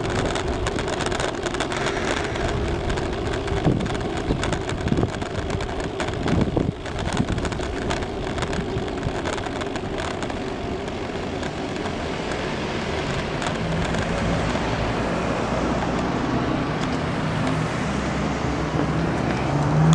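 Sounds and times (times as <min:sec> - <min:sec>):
car engine hum: 0:00.0 - 0:19.9
wind and road noise: 0:00.0 - 0:19.9.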